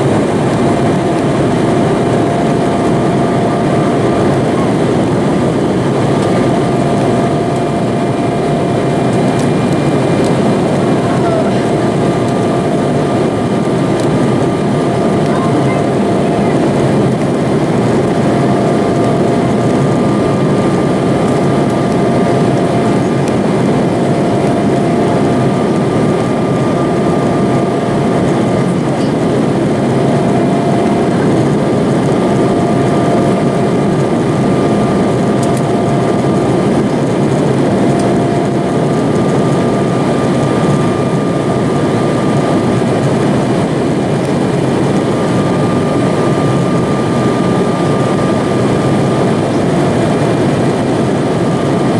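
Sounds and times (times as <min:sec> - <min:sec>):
jet engines and airflow rushing: 0:00.0 - 0:51.9.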